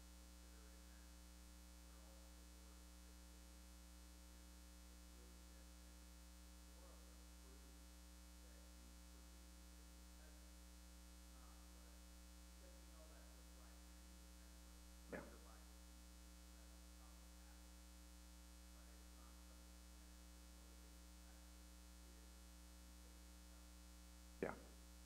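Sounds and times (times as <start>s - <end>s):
faint distant voice: 0.0s - 23.8s, 24.4s - 24.8s.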